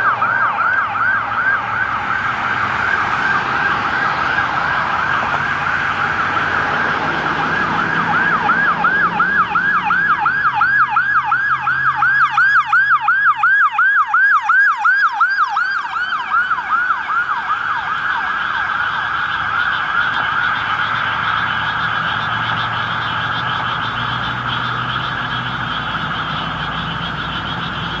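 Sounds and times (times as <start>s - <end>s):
vehicle engine running: 0.0s - 13.3s, 16.7s - 28.0s
emergency siren wail and yelp: 0.0s - 28.0s.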